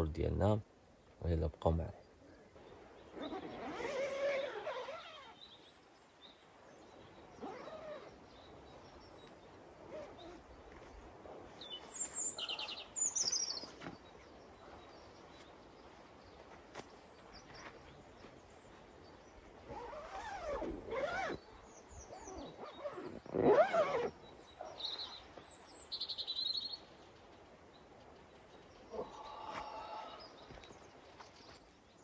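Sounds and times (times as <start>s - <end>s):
birds calling and chirping: 2.0s - 32.0s.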